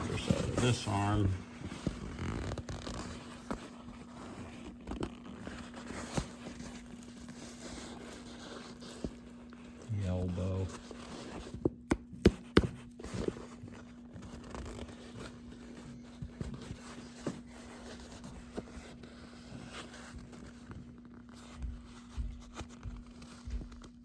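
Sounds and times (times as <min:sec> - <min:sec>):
rustling and scraping: 0:00.0 - 0:24.0.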